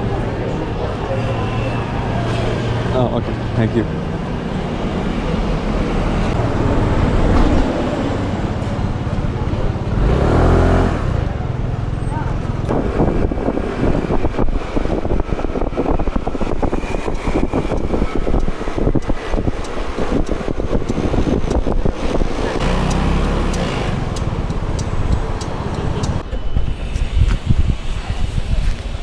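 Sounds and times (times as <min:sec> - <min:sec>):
deep engine rumble: 0:00.0 - 0:27.8
road vehicles passing: 0:00.0 - 0:29.0.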